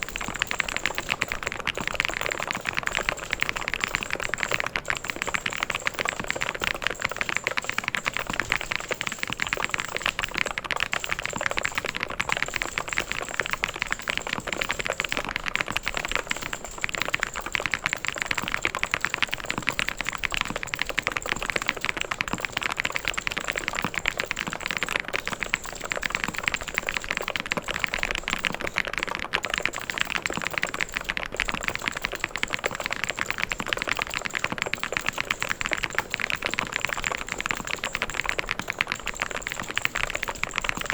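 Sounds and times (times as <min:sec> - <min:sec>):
typing on mechanical keyboard: 0:00.0 - 0:40.9.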